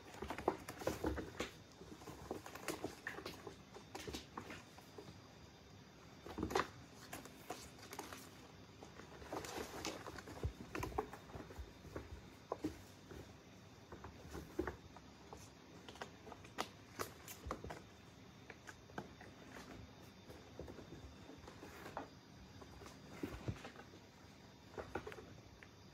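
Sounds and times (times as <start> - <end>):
kittens thumping and patter: 0.0 - 5.2, 6.1 - 25.8.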